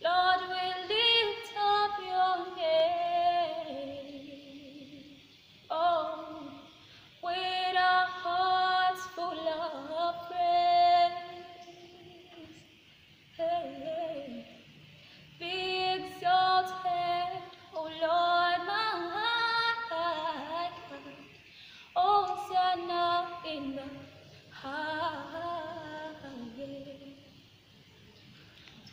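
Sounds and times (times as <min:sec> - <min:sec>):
woman singing unaccompanied: 0:00.0 - 0:27.5.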